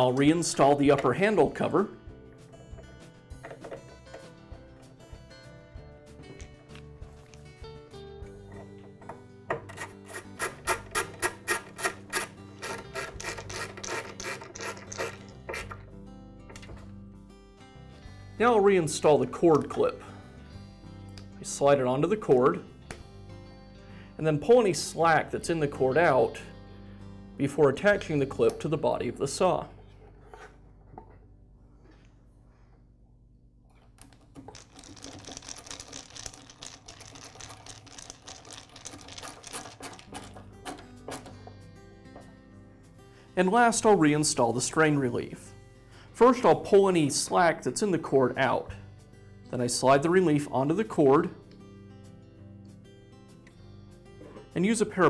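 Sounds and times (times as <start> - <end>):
soft background music: 0.0 - 32.7, 34.0 - 55.0.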